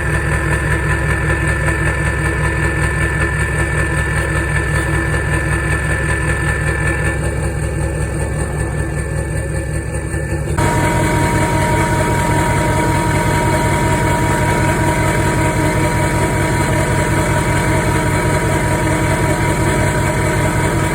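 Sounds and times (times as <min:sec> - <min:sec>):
diesel engine idling: 0:00.0 - 0:20.9
engine whine: 0:00.0 - 0:20.9.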